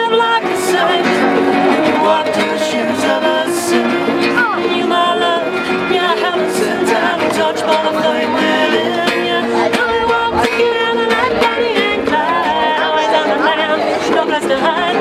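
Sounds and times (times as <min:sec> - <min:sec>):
bowed fiddle melody: 0:00.0 - 0:15.0
strummed acoustic guitars: 0:00.0 - 0:15.0.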